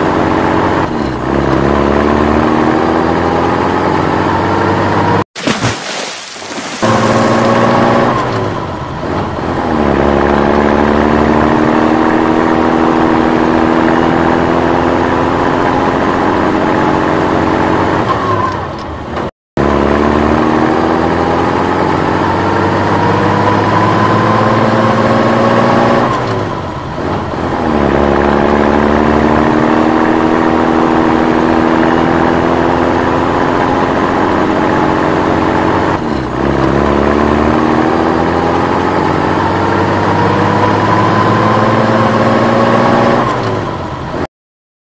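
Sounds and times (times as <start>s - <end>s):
vehicle engine revving: 0.0s - 5.2s, 6.8s - 18.4s, 19.6s - 44.3s.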